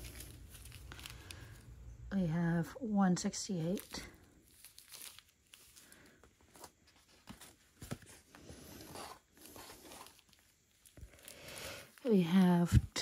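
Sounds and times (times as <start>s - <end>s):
plastic bags crinkling: 0.0s - 2.0s, 3.3s - 12.9s.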